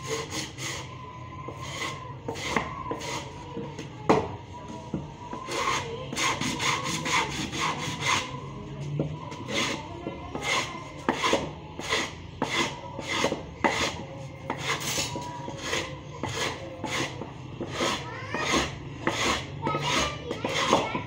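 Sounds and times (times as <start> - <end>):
wood being sanded by hand: 0.0 - 0.9, 1.5 - 3.4, 5.5 - 8.3, 9.4 - 21.0.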